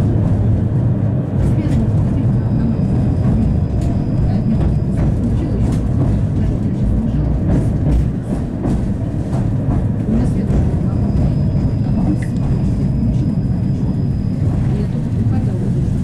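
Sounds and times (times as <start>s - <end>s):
tram low rumble: 0.0s - 16.0s.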